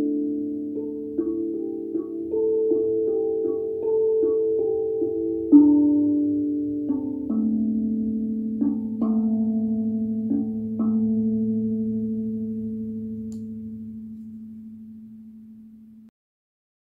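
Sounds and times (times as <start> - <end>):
steel tongue drum notes: 0.0 - 16.1.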